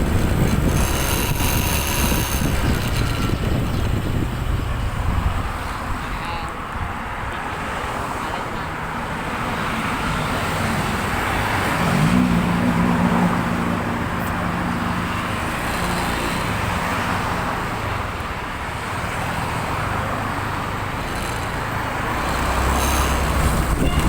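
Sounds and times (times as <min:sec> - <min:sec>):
heavy vehicle engine: 0:00.0 - 0:24.0
road traffic: 0:00.0 - 0:24.0.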